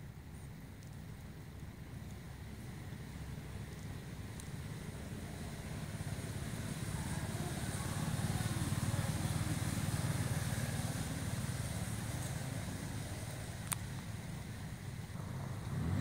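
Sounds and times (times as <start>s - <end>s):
vehicle engine rumble passing by: 0.0s - 16.0s.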